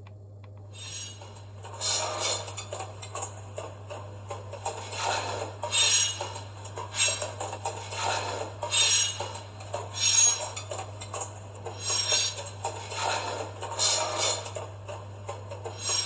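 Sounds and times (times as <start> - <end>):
model locomotive hum: 0.6 - 16.0.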